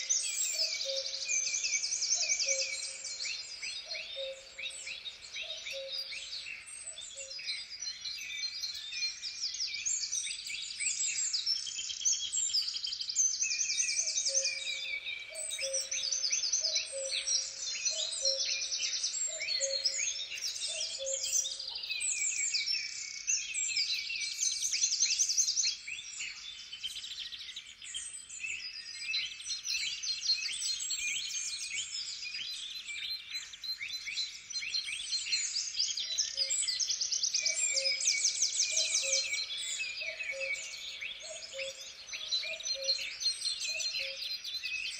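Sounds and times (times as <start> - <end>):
songbirds chorus: 0.0 - 44.9.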